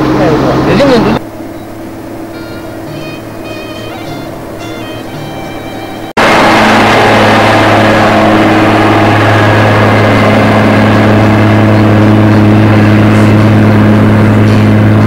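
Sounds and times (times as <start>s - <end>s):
heavy engine humming: 0.0s - 15.0s
wind and road noise: 0.0s - 15.0s.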